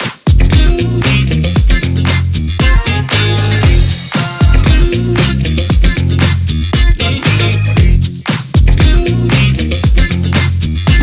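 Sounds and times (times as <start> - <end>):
upbeat disco funk music: 0.0 - 11.0.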